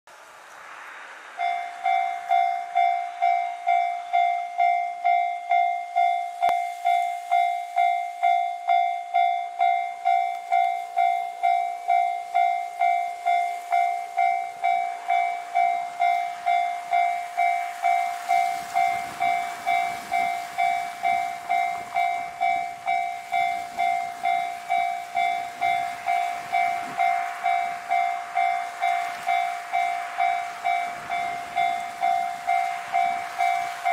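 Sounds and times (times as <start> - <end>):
bell ringing: 1.4 - 33.9.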